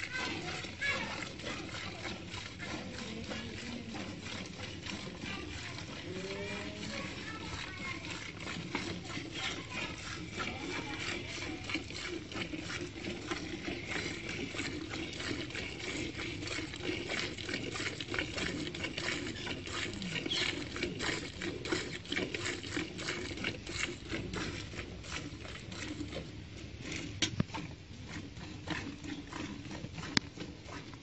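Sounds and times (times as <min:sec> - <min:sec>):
milk squirting into steel bucket: 0:00.0 - 0:31.0.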